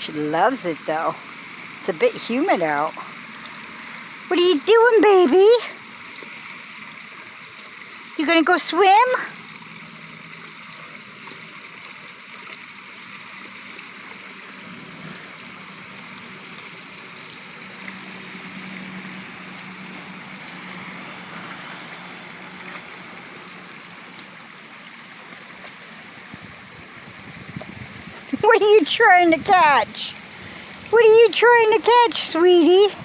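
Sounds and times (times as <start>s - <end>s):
water trickling and gurgling: 0.0s - 33.0s.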